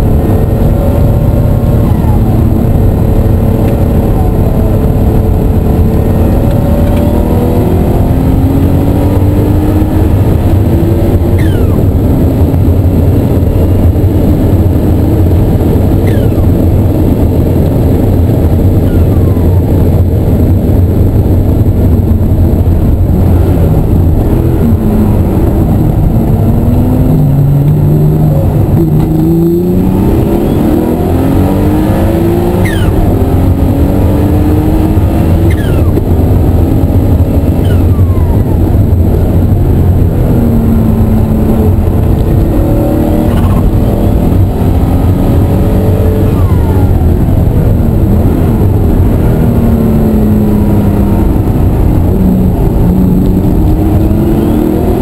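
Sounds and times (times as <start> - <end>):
car engine accelerating: 0.0 - 55.0
engine and road rumble: 0.0 - 55.0.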